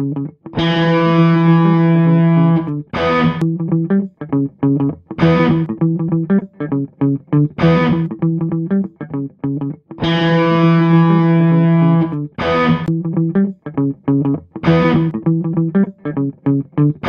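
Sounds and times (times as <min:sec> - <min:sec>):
distorted electric guitar chords: 0:00.0 - 0:13.5, 0:14.1 - 0:17.0.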